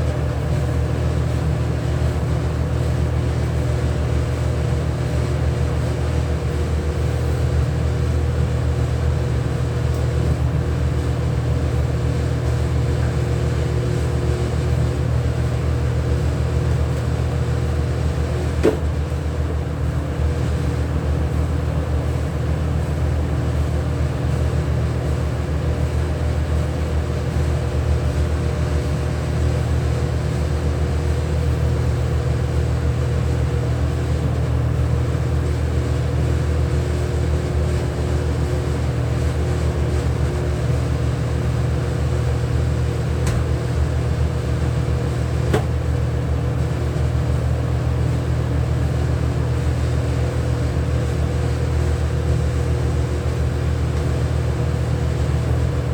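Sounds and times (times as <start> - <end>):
machinery motor hum: 0.0 - 55.9.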